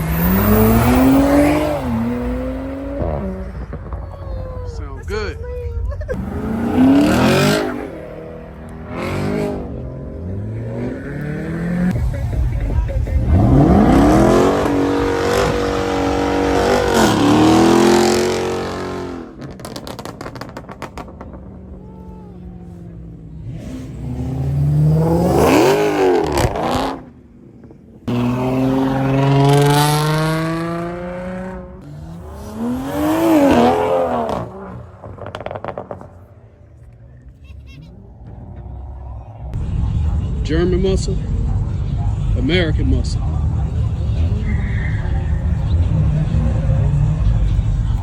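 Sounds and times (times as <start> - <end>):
car engines revving and accelerating: 0.0 - 48.0.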